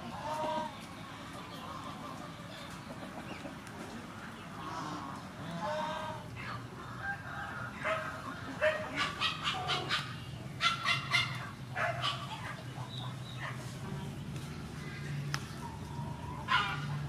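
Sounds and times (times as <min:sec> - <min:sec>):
chickens clucking and cackling: 0:00.0 - 0:17.0.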